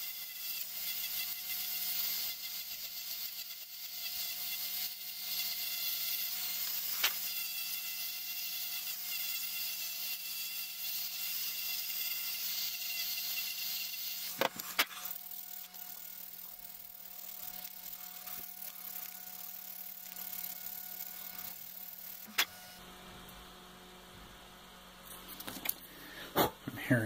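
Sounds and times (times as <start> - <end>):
rotary tool whining: 0.0 - 22.8.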